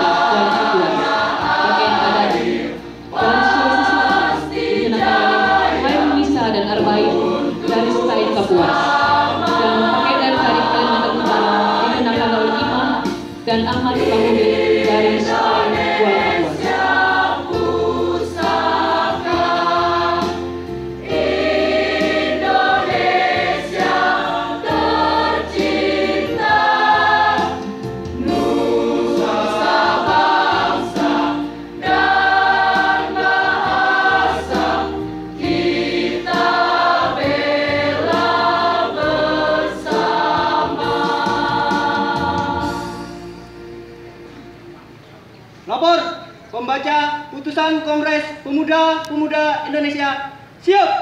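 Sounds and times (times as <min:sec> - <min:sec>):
choir singing: 0:00.0 - 0:44.0.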